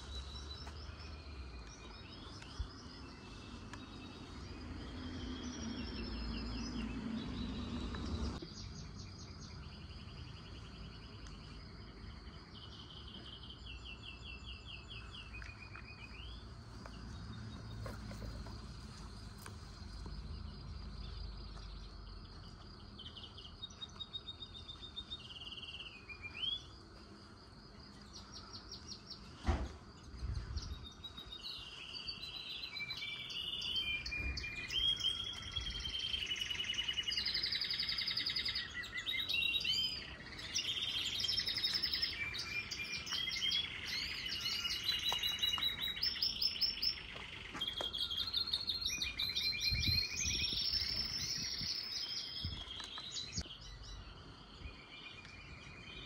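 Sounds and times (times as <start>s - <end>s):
outdoor background noise: 0.0s - 56.0s
songbirds singing and calling: 0.0s - 56.0s.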